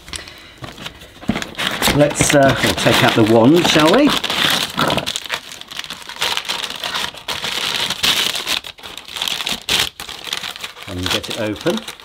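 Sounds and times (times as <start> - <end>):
paper and cardboard crinkling: 0.6 - 12.0.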